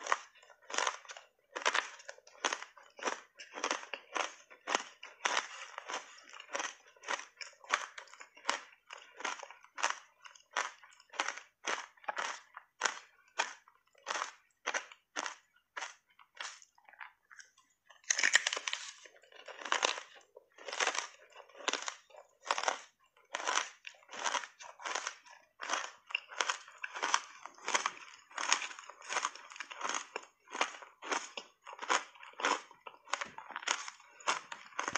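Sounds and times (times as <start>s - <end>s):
ice crunching between teeth: 0.0s - 34.9s.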